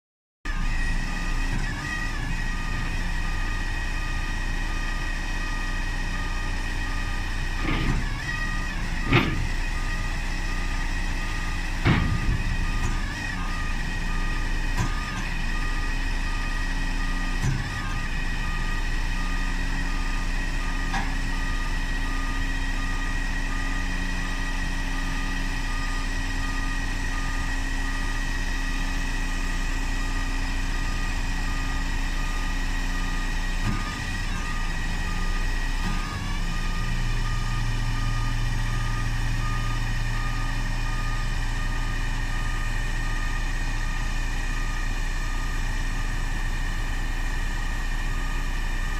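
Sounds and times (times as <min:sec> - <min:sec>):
hydraulic pump whine: 0:00.5 - 0:48.9
truck engine running: 0:00.5 - 0:48.9
beeping warning signal: 0:00.7 - 0:46.4.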